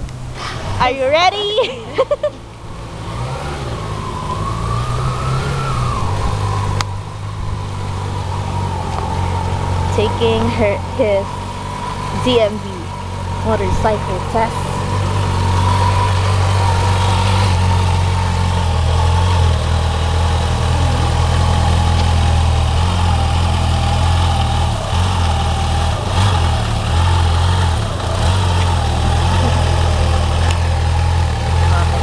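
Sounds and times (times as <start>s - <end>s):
motorcycle engine at low revs: 0.0s - 32.0s.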